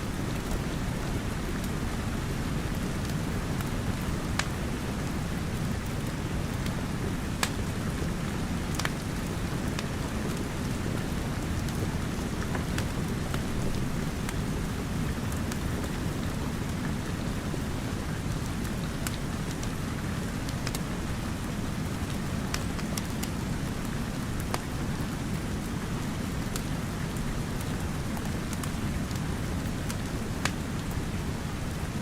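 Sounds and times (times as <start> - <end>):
steady rain falling: 0.0 - 32.0
wood fire crackling: 0.2 - 31.7.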